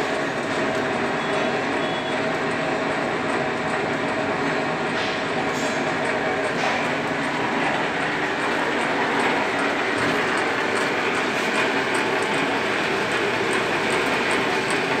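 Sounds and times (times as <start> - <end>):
belt-driven lathe running: 0.0 - 15.0.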